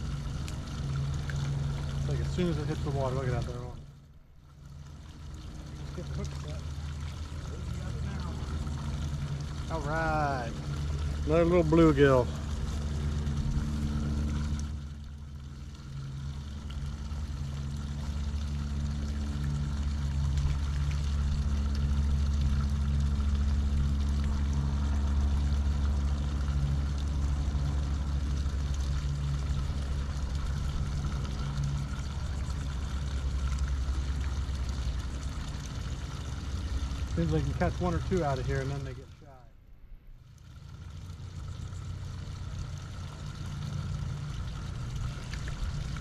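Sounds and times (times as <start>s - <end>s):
low mechanical drone: 0.0s - 46.0s
wavering hum: 0.0s - 46.0s.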